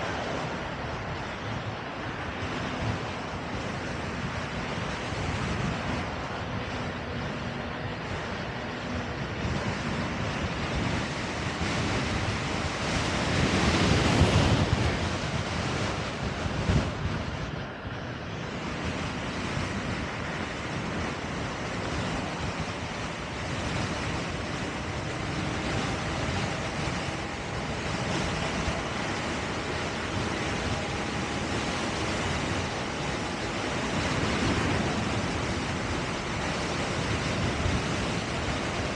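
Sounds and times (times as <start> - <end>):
tyre and road noise: 0.0 - 38.9
wind on microphone: 0.0 - 38.9.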